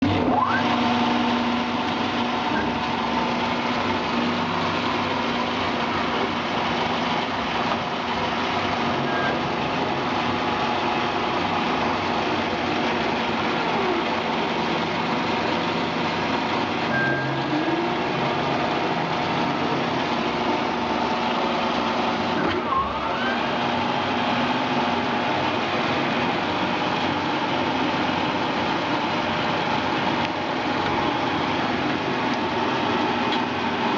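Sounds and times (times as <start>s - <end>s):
lathe motor whirring: 0.0s - 33.9s.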